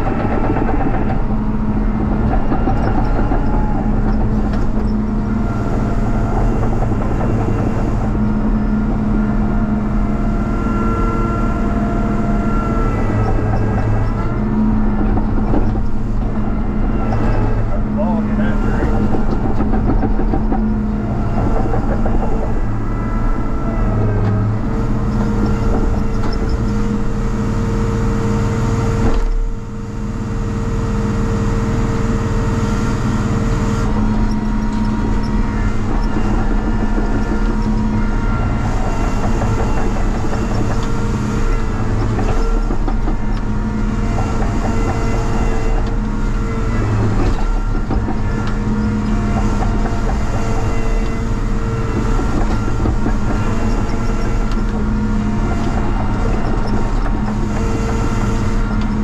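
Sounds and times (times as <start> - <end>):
loader diesel engine running: 0.0 - 59.0.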